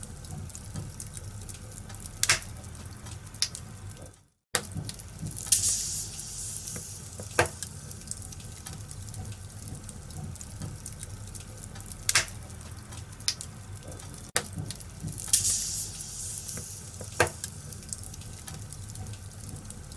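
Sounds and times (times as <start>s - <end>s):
burning wood popping: 0.0s - 4.0s, 4.6s - 19.9s
log fire crackling: 0.0s - 19.9s.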